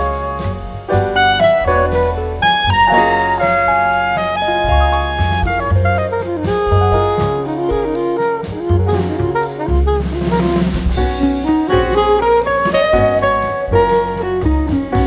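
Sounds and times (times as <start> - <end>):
bass: 0.0 - 15.0
drum kit: 0.0 - 15.0
saxophone melody: 0.0 - 15.0.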